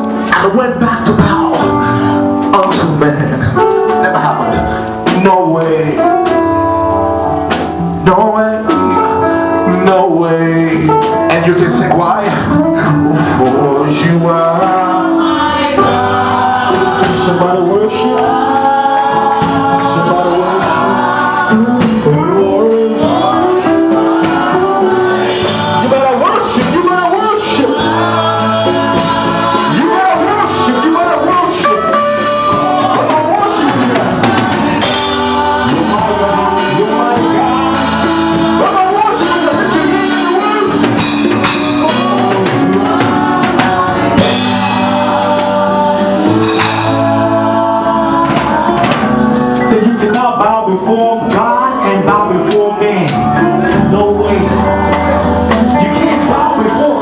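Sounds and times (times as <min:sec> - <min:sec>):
gospel band playing: 0:00.0 - 0:57.0
voices singing: 0:00.0 - 0:57.0.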